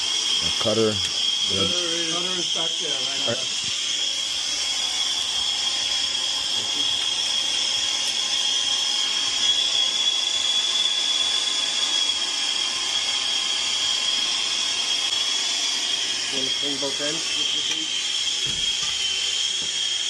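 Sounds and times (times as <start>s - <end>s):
loud hissing with high whistle: 0.0s - 20.0s.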